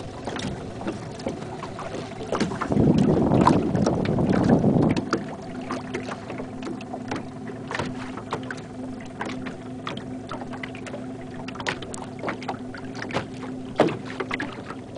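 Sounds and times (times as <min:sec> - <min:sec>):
waves lapping against boat hull: 0:00.0 - 0:14.9.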